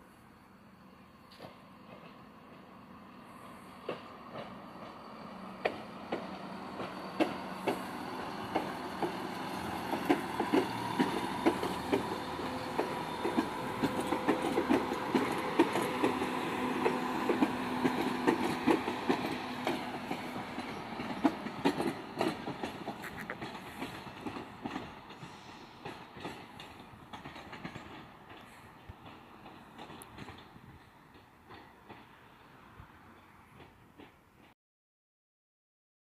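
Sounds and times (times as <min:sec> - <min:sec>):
train running gear drone: 0:00.0 - 0:34.5
train wheels clacking over rail joints: 0:01.3 - 0:02.7, 0:03.8 - 0:34.6.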